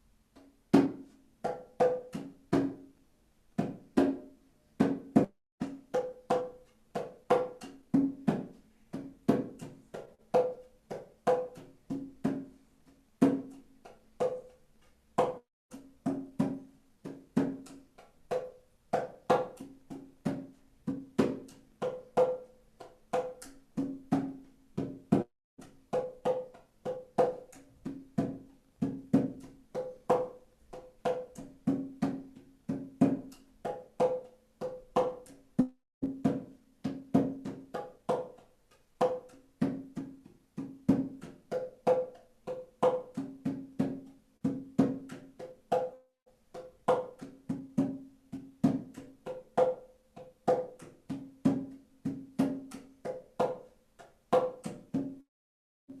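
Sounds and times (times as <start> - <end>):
pitched hand percussion: 0.4 - 2.9, 3.6 - 14.6, 15.2 - 55.3.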